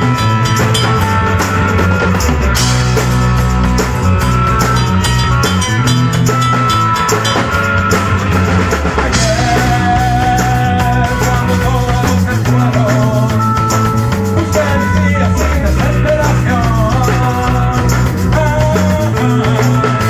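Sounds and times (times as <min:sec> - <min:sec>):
drum kit with cymbals: 0:00.0 - 0:20.0
electric guitars: 0:00.0 - 0:20.0
sustained bass notes: 0:00.0 - 0:20.0.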